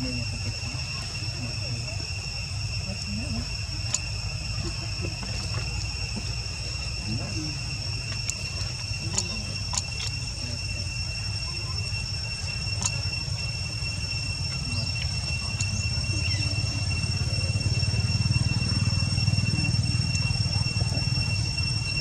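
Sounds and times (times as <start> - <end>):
insects singing: 0.0 - 22.0
low outdoor rumble: 0.0 - 22.0.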